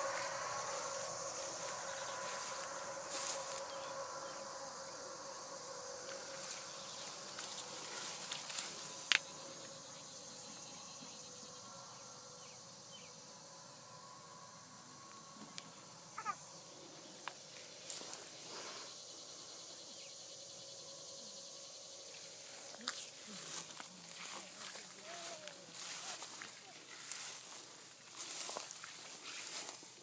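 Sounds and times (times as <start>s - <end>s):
steady low hum: 0.0s - 29.7s
high insect-like hiss: 0.0s - 30.0s.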